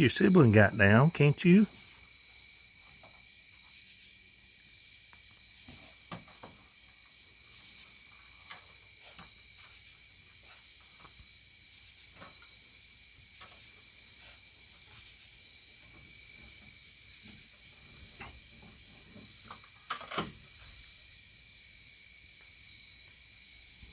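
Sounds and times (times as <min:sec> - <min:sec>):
crickets trilling: 0:00.0 - 0:23.9.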